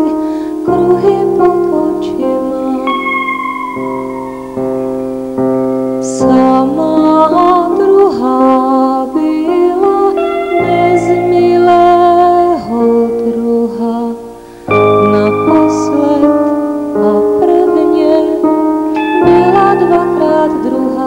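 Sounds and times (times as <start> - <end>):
person singing: 0.0 - 5.2, 6.0 - 21.0
keyboard chords: 0.0 - 21.0.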